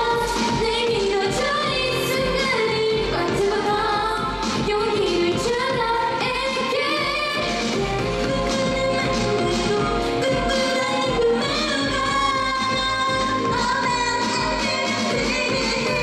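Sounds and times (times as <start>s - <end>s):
pop dance track: 0.0s - 16.0s
woman singing into microphone: 0.0s - 16.0s.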